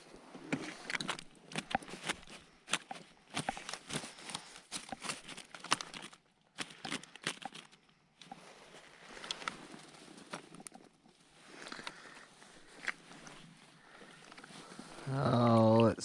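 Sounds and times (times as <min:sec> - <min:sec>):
gear being handled: 0:00.5 - 0:15.1.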